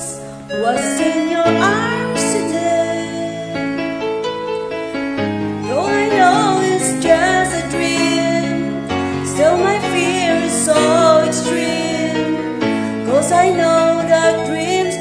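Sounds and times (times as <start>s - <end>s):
woman singing a ballad: 0.0s - 3.8s, 5.6s - 15.0s
karaoke backing track chords: 0.0s - 15.0s.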